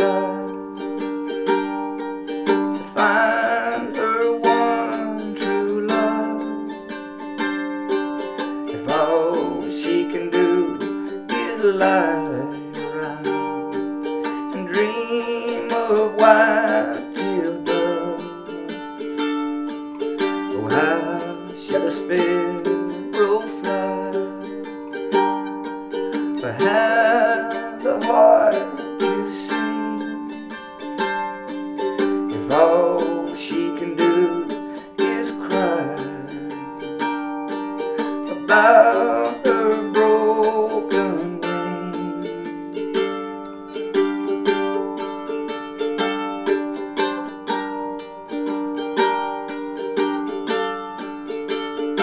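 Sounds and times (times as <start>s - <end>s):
acoustic guitar folk music: 0.0s - 52.0s.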